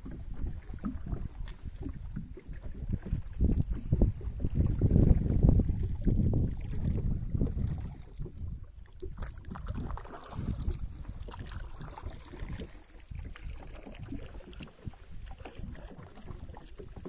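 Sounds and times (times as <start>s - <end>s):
water lapping against boat: 0.0s - 17.0s
wind rumble on microphone: 0.0s - 17.0s.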